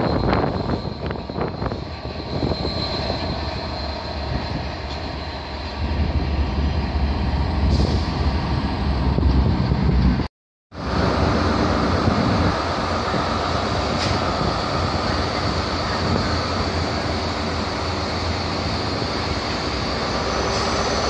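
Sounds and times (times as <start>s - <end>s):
diesel locomotive engine drone: 0.0s - 21.0s
wheel and rail noise: 0.0s - 21.0s.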